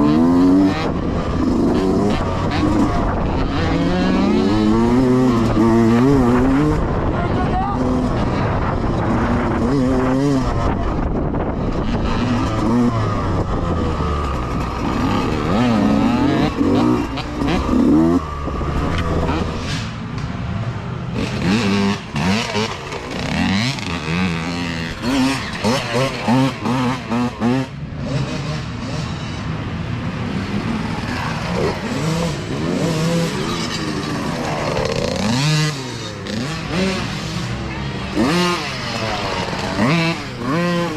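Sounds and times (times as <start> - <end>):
mini dirt bike engines revving: 0.0 - 20.0, 21.0 - 40.9.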